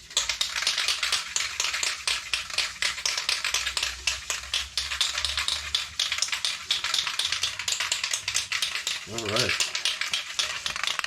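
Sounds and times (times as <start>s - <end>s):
aerosol can shaken rattling: 0.0s - 11.0s.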